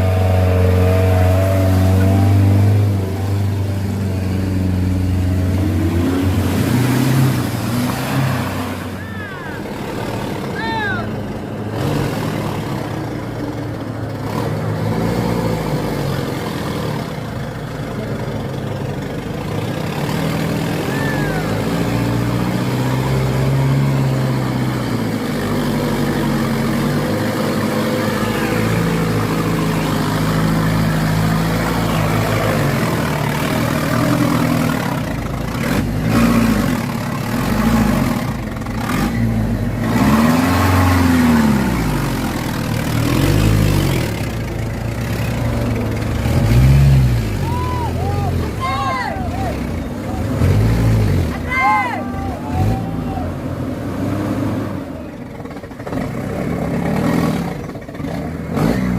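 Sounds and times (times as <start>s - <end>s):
diesel truck engine revving: 0.0s - 58.9s.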